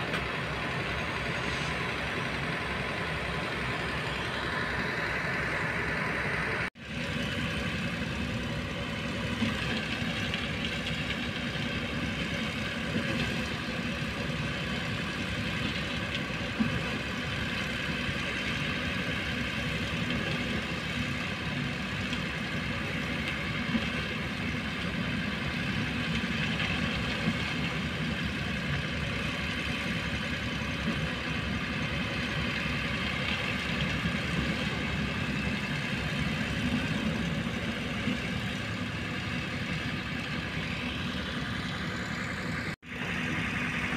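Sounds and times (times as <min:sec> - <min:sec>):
diesel machinery running: 0:00.0 - 0:43.9.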